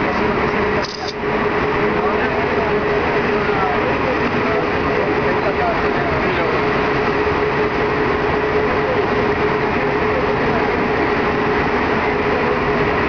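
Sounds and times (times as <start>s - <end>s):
metro train running in tunnel: 0.0s - 13.0s
steady whine: 0.0s - 13.0s.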